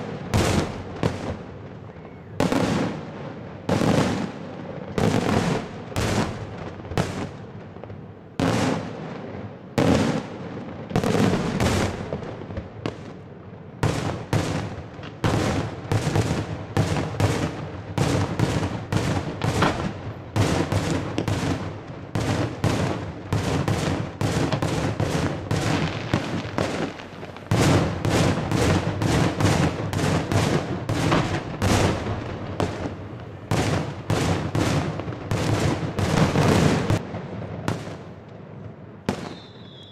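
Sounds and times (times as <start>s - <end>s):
fireworks bursting in bangs: 0.0s - 39.9s.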